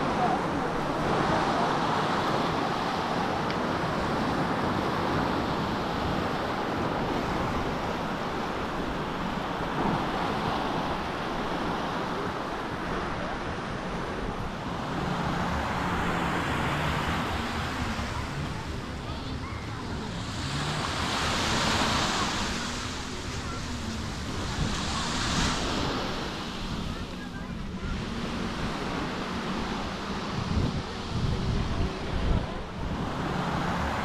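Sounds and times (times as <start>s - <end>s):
surf washing onto beach: 0.0s - 34.0s
wind rumbling on microphone: 0.0s - 34.0s.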